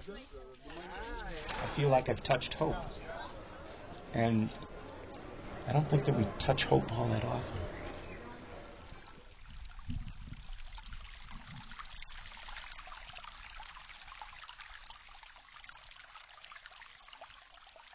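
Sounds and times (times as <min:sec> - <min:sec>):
water trickling: 0:00.0 - 0:17.9.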